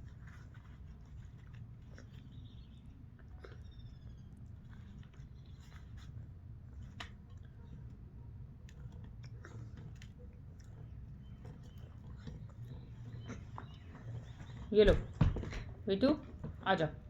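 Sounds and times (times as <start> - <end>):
chewing noises: 0.0 - 14.7
low steady hum: 0.0 - 17.0.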